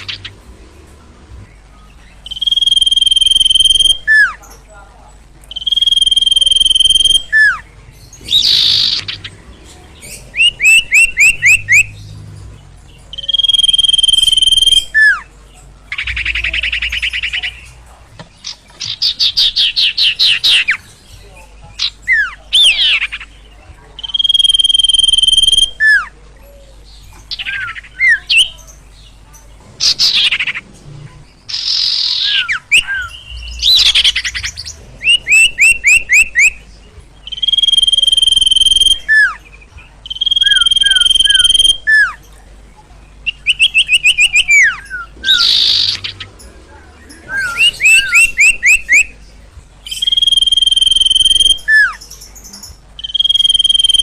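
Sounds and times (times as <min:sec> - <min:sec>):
songbird whistling and chirping: 0:01.5 - 0:04.6, 0:05.4 - 0:29.2, 0:31.5 - 0:42.4, 0:43.2 - 0:54.0.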